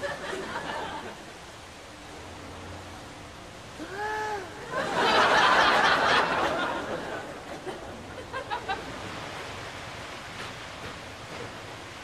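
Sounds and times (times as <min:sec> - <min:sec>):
churning lapping water: 0:00.0 - 0:12.0
pool water splashing: 0:00.0 - 0:12.0.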